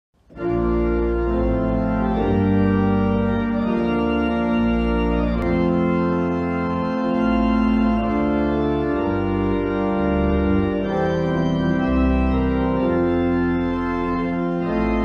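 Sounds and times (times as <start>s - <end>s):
organ playing slow chords: 0.2s - 15.0s.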